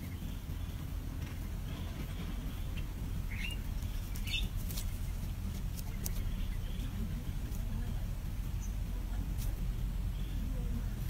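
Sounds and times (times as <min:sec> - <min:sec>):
small birds chirping faintly: 0:00.0 - 0:11.0
steady low rumble: 0:00.0 - 0:11.0.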